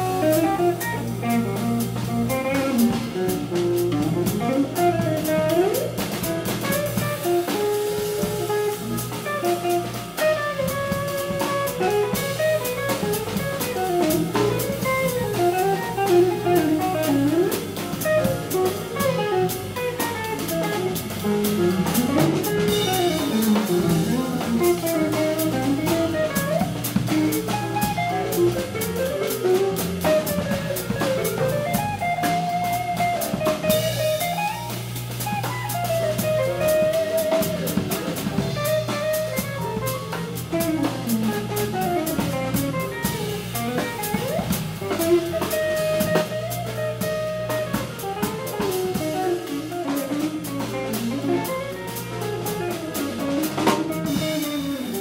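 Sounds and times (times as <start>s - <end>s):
drums with busy cymbals: 0.0s - 55.0s
electric bass: 0.0s - 55.0s
electric guitar lead: 0.0s - 55.0s
piano: 0.0s - 55.0s.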